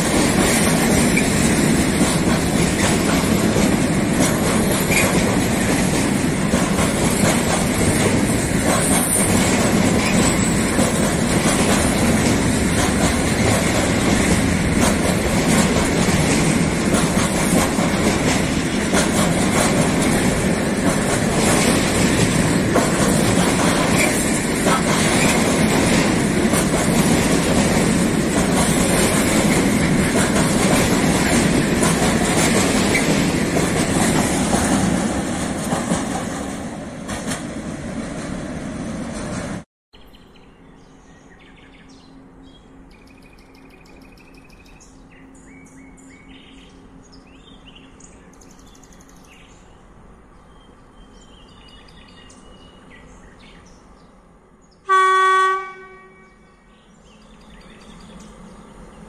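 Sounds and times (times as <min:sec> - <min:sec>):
freight train wheels on rails: 0:00.0 - 0:39.7, 0:41.3 - 0:59.0.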